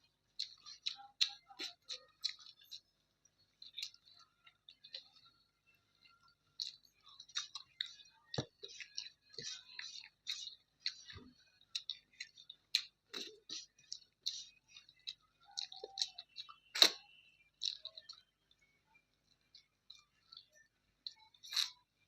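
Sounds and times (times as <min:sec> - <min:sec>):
chewing and mouth smacks: 0:00.3 - 0:18.6, 0:19.2 - 0:21.9.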